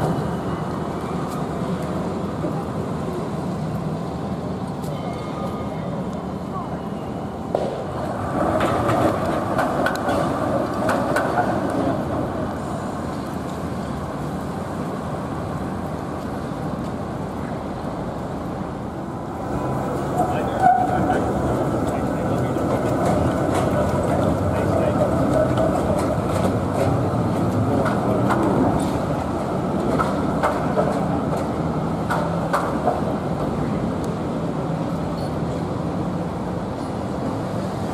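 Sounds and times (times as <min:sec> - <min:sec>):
tram rumble: 0:00.0 - 0:37.9
tram wheels clicking over rail joints: 0:07.5 - 0:37.9.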